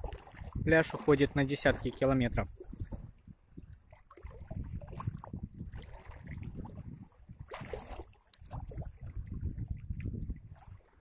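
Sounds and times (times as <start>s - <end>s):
sea water sloshing and lapping: 0.0s - 11.0s
water splashes: 0.0s - 11.0s.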